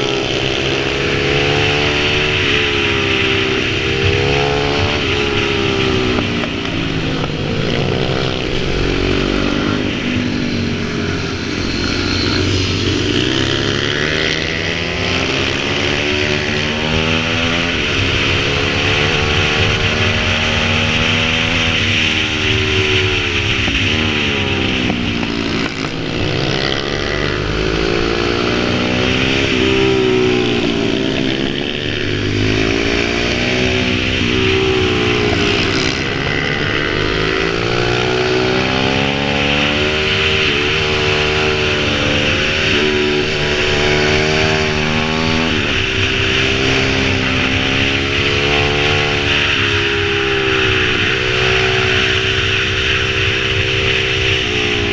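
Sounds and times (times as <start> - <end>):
pit bike engine: 0.0 - 54.9.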